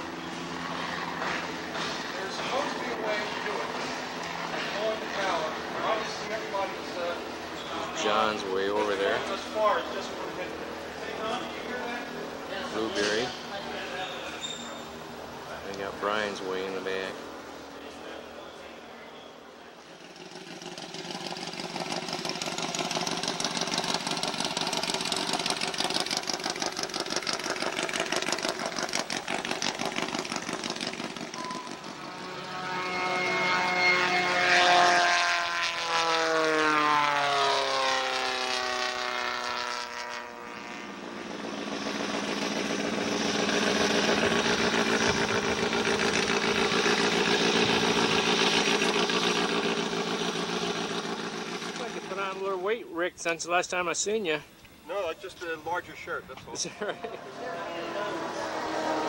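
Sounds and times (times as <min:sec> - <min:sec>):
plane flying low past: 0:00.0 - 0:52.8, 0:54.6 - 0:59.0
propeller plane engine running: 0:00.0 - 0:59.0.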